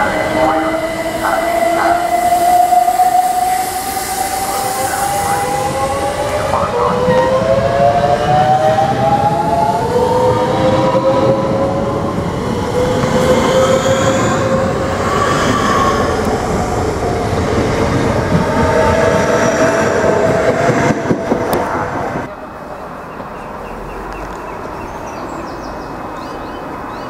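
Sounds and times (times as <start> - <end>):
train traction motors whining: 0.0 - 23.3
train wheels rumbling on track: 0.0 - 27.0.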